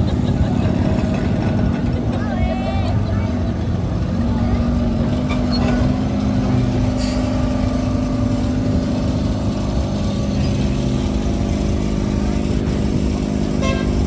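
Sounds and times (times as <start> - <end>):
electric tram humming past: 0.0 - 14.0.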